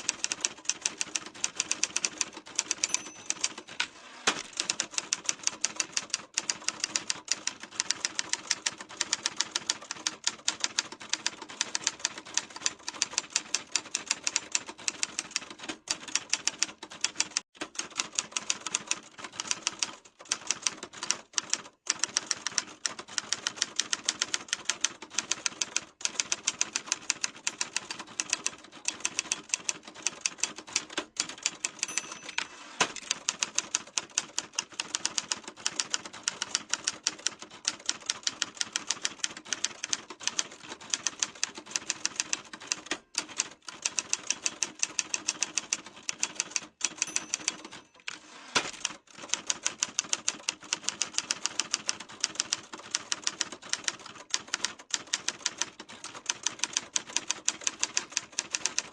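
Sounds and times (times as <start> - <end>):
typewriter typing: 0.0 - 58.9.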